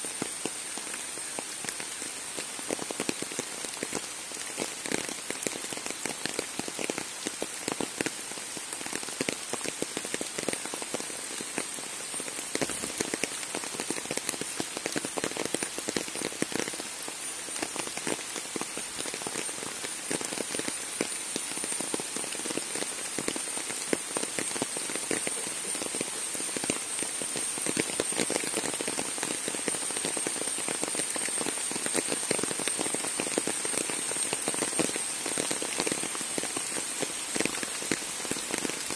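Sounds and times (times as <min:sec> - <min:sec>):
rain falling on trees: 0:00.0 - 0:38.9.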